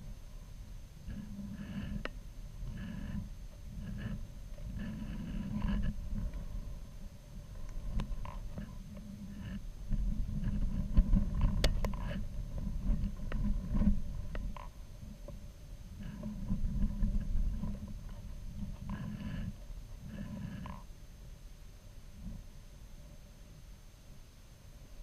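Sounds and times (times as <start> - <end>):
low rumbling wind buffeting: 0.0 - 20.7.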